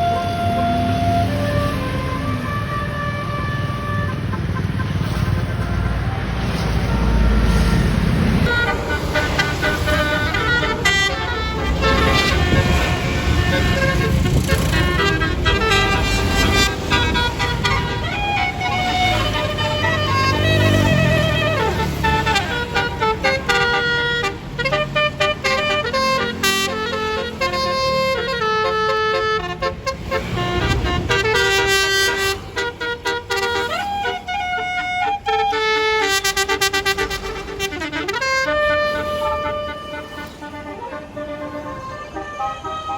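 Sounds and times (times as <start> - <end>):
low rumble of vehicle: 0.0 - 42.9
melodic bus horn tune: 0.0 - 42.9.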